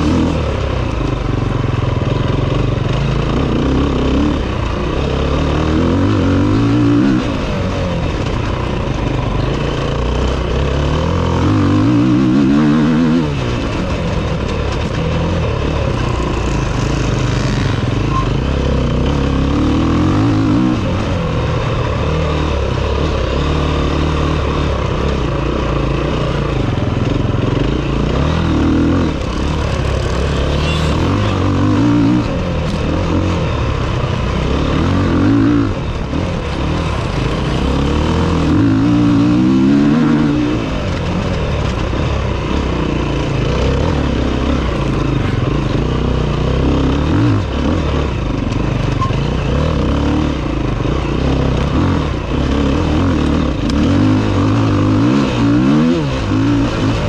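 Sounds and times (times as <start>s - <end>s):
dirt bike engine revving: 0.0s - 57.0s
second dirt bike engine: 0.0s - 57.0s.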